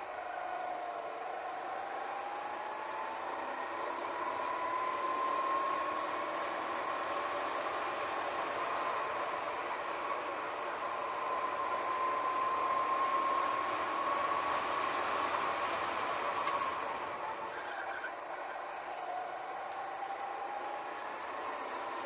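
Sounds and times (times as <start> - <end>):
go-kart engine running hard: 0.0 - 22.0.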